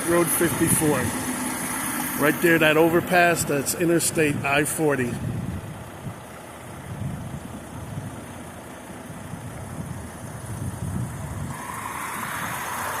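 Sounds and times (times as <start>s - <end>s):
motor vehicles rumbling: 0.0s - 13.0s.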